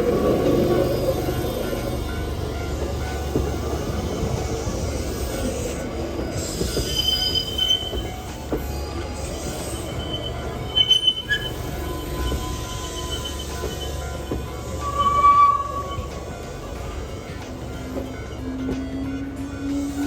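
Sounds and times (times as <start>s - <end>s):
train cars rumbling: 0.0s - 20.0s
train wheels squealing on rails: 0.0s - 20.0s.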